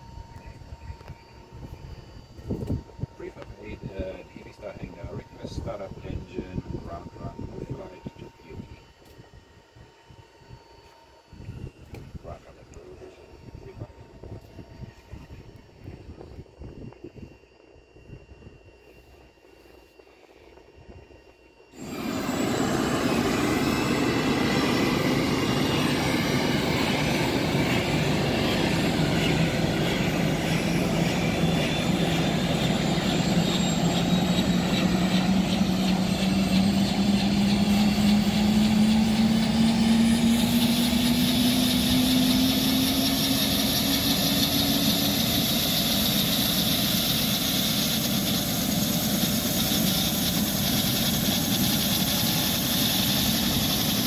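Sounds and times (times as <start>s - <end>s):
helicopter turbine and rotor: 0.0s - 54.0s
high turbine whine: 0.0s - 54.0s.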